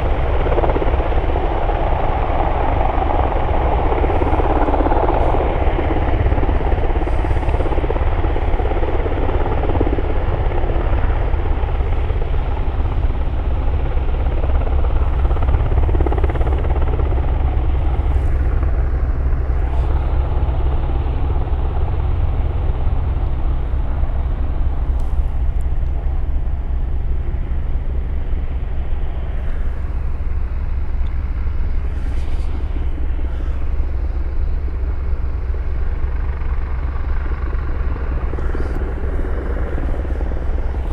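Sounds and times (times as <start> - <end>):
helicopter rotor and engines: 0.0 - 40.9.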